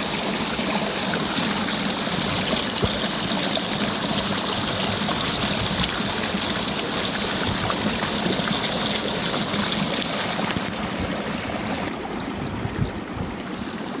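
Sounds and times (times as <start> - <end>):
stream running over rocks: 0.0 - 14.0.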